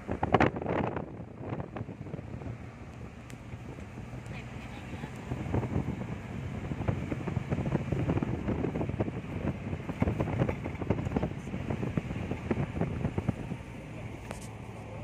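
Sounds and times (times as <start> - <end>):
road rumble inside car: 0.0 - 15.0.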